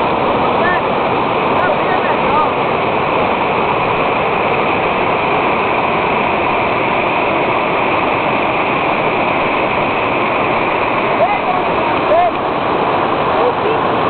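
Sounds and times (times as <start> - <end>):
large waterfall rushing: 0.0 - 14.0.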